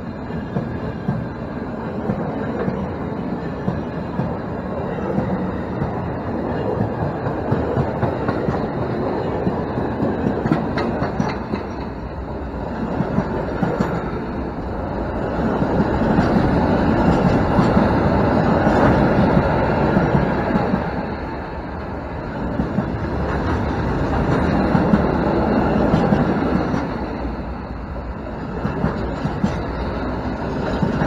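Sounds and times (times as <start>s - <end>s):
freight train wheels rumbling on rails: 0.0s - 31.0s.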